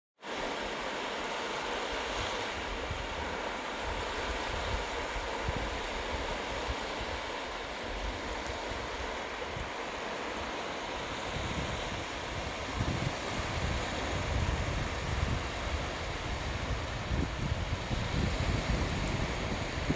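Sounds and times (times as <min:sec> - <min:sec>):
sea waves breaking on beach: 0:00.2 - 0:19.9
wind buffeting microphone: 0:02.2 - 0:19.9.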